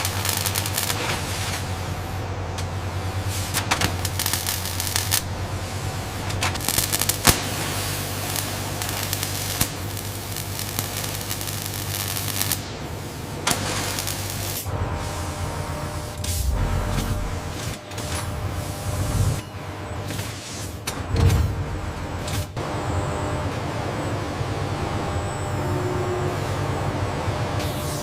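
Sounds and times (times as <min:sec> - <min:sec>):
machinery hum: 0:00.0 - 0:28.0.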